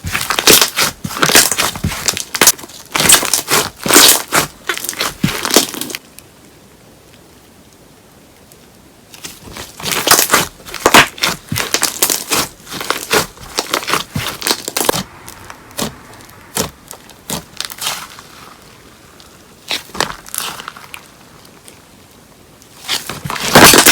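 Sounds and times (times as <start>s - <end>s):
slime crackling and popping: 0.0s - 6.0s, 9.1s - 21.8s, 22.6s - 23.9s.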